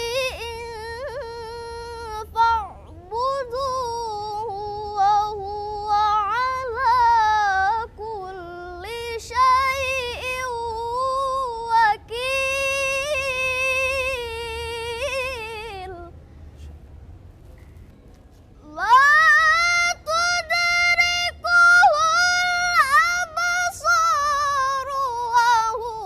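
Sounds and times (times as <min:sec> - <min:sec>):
girl reciting melodically: 0:00.0 - 0:16.2, 0:18.6 - 0:26.0.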